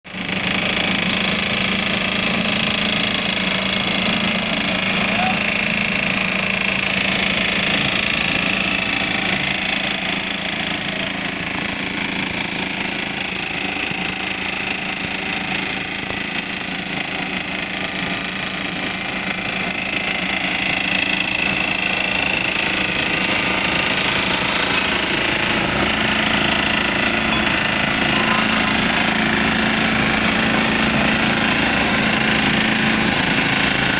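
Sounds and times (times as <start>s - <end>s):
road roller machine din: 0.1s - 33.9s.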